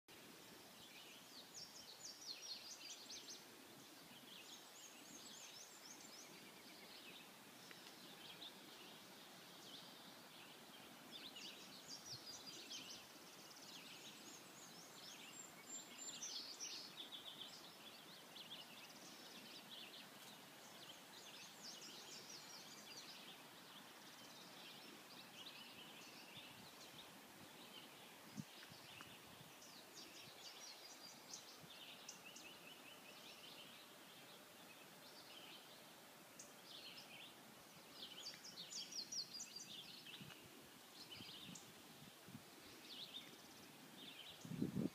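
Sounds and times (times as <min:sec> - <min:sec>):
faint songbirds chirping: 0:00.1 - 0:44.9
outdoor hiss: 0:00.1 - 0:44.9.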